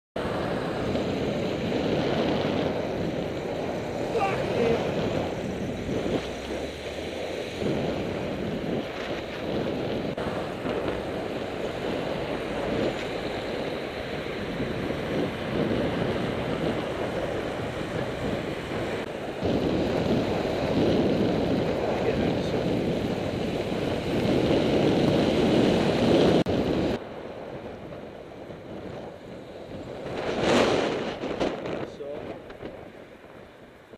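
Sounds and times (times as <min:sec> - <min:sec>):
road and traffic noise: 0:00.2 - 0:33.9
wind rushing over microphone: 0:00.2 - 0:33.9.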